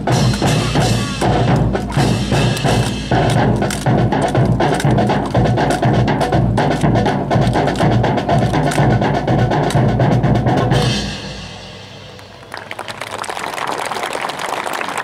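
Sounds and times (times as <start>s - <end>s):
drum-heavy music: 0.0s - 12.2s.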